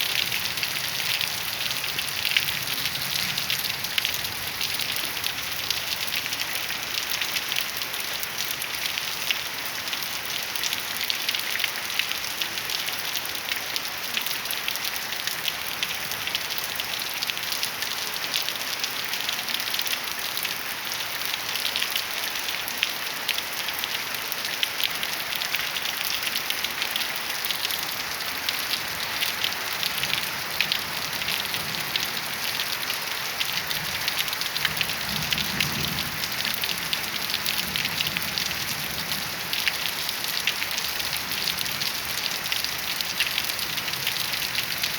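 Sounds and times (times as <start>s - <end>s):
heavy rain pattering: 0.0s - 44.9s.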